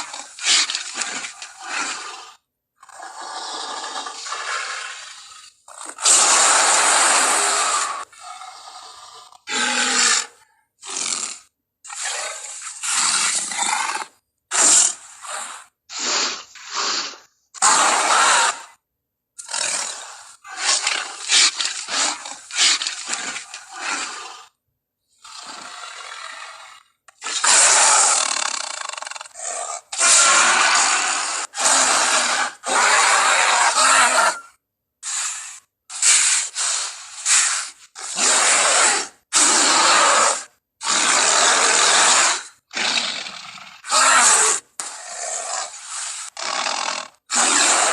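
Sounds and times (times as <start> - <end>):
gorilla roars and grunts: 0.0 - 18.8, 19.4 - 24.6, 25.2 - 47.9.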